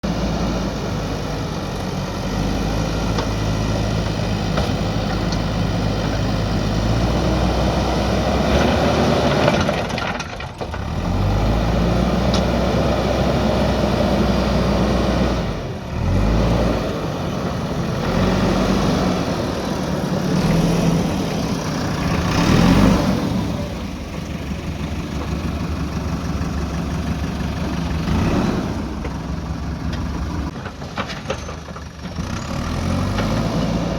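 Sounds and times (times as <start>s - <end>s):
diesel engine revving: 0.0s - 30.6s, 31.9s - 33.9s.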